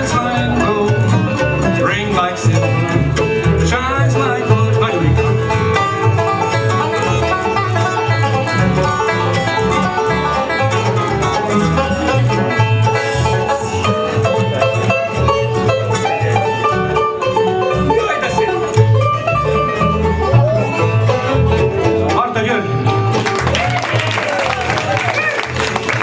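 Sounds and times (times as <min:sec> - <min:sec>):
bluegrass band playing: 0:00.0 - 0:26.0.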